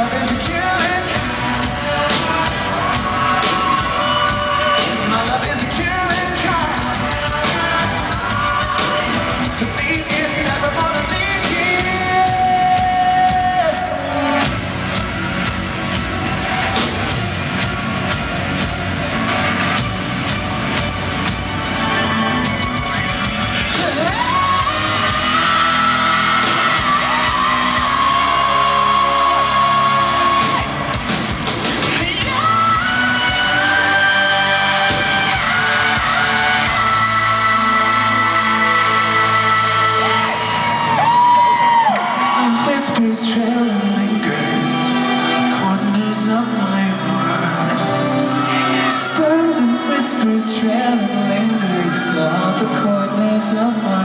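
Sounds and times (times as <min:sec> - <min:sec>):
person singing: 0:00.0 - 0:14.6, 0:23.6 - 0:31.0, 0:31.8 - 0:54.0
rock band playing live: 0:00.0 - 0:54.0.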